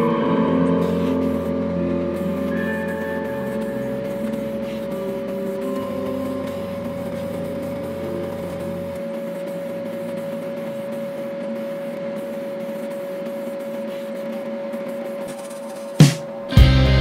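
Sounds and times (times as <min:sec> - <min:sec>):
airbrush hissing: 0:00.0 - 0:16.4
motor hum: 0:00.0 - 0:17.0.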